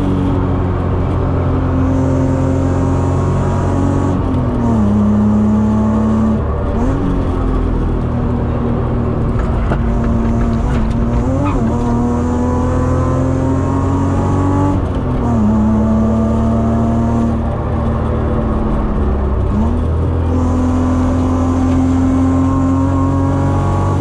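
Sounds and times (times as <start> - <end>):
tyre and road rumble: 0.0 - 22.4
car engine revving: 0.0 - 24.0.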